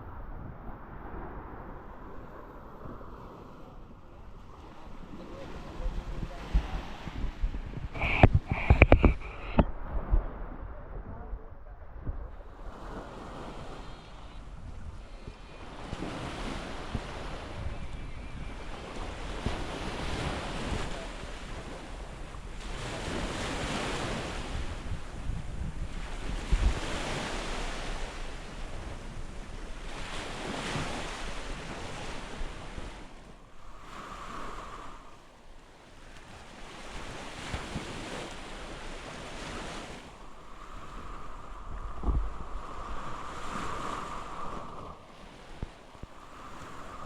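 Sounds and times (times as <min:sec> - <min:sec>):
wind buffeting microphone: 0:00.0 - 0:47.0
small waves washing onto sand: 0:00.8 - 0:10.7, 0:12.2 - 0:47.0.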